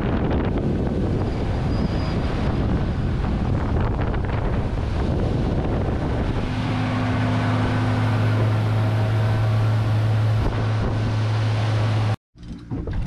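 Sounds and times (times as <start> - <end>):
water rushing past hull: 0.0 - 12.2
wind on microphone: 0.0 - 12.2
outboard motor running: 0.0 - 13.0.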